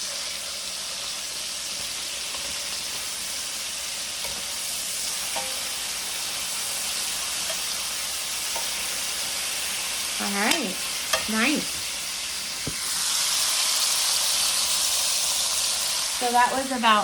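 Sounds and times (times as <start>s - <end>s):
steaks sizzling in a pan: 0.0s - 17.0s.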